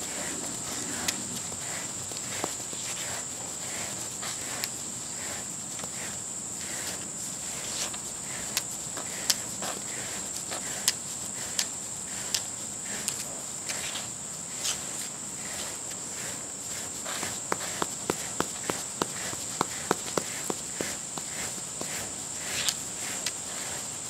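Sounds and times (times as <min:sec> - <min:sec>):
brush strokes on dog's coat: 0:00.0 - 0:24.0.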